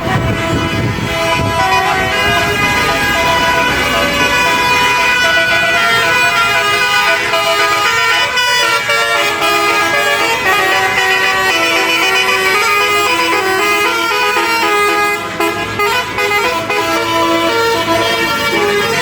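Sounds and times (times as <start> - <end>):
multi-tone bus horn tune: 0.0 - 19.0.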